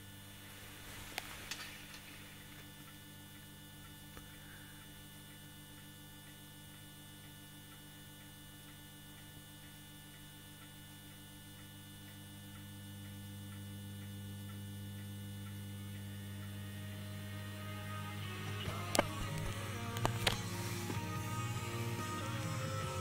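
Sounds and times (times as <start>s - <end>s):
faint regular ticking: 0.0s - 23.0s
radio mains hum: 0.0s - 23.0s.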